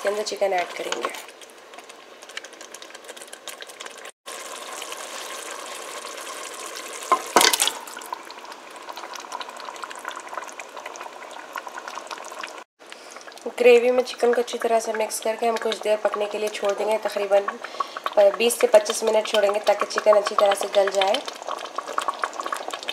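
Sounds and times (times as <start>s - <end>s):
gravy simmering and sizzling: 0.0s - 22.9s.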